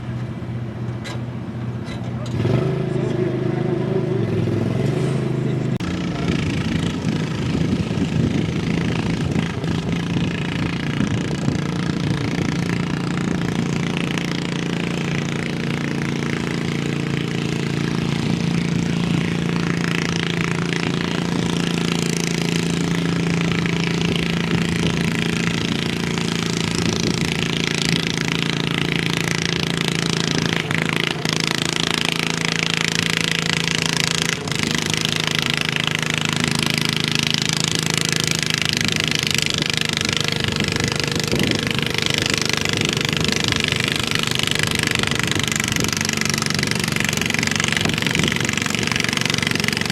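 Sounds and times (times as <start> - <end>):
garden tractor engine running: 0.0 - 49.9.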